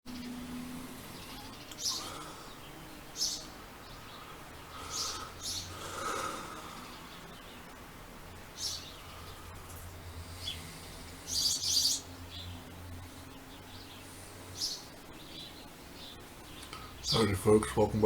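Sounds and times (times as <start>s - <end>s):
songbirds chirping: 0.1s - 18.0s.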